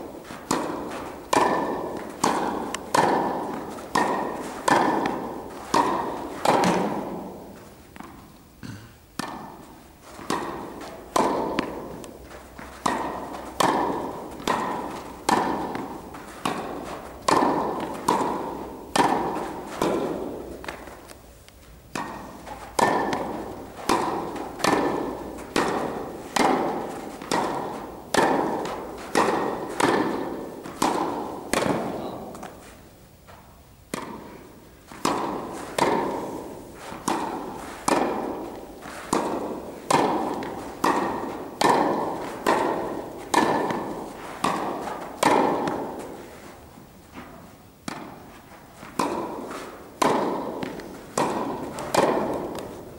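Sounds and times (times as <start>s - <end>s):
tennis racket hitting ball: 0.0s - 8.4s, 9.2s - 52.9s.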